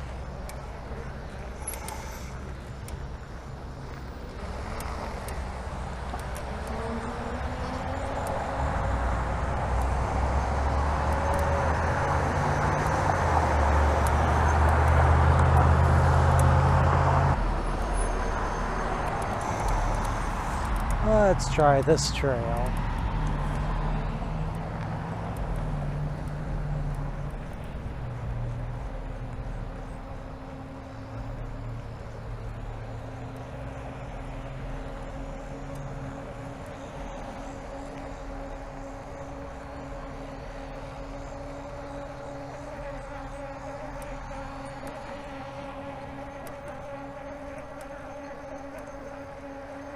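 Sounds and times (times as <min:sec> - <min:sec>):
bicycle rumble: 0:00.0 - 0:49.9
electric bike motor hum: 0:00.0 - 0:49.9.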